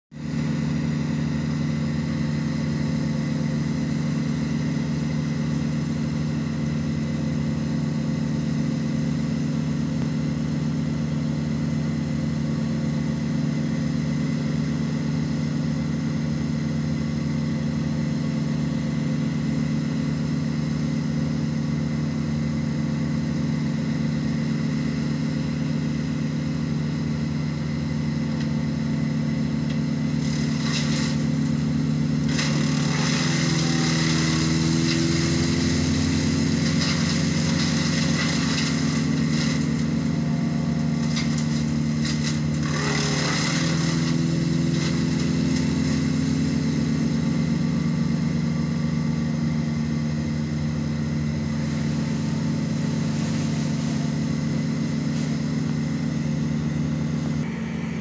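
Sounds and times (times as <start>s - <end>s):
heavy engine droning: 0.1s - 58.0s.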